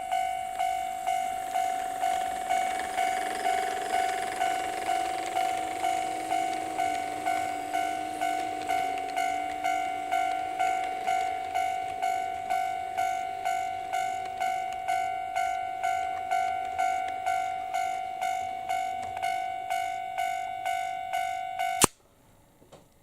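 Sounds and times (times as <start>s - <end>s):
level crossing bell ringing: 0.0s - 21.8s.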